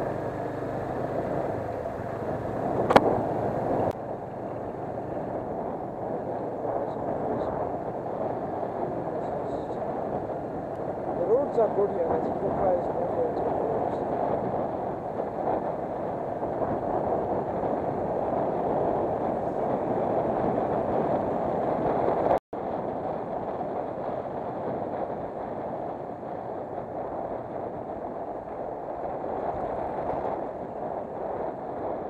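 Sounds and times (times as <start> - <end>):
motorcycle road noise: 0.0 - 32.0
wind rushing: 0.8 - 4.0, 4.7 - 32.0.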